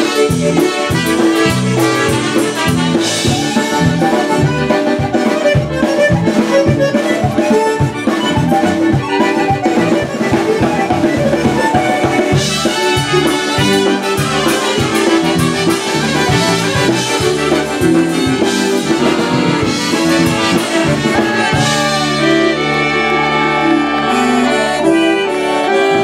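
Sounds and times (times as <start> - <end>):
bass guitar: 0.0 - 26.0
concertina: 0.0 - 26.0
drum kit beat: 0.0 - 26.0
piano accordion melody: 0.0 - 26.0.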